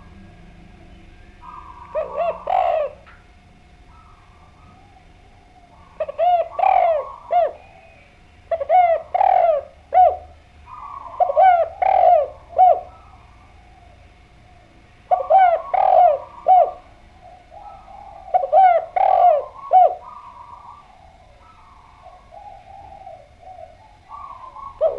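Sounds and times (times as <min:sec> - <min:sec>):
dove cooing: 0:00.0 - 0:24.9.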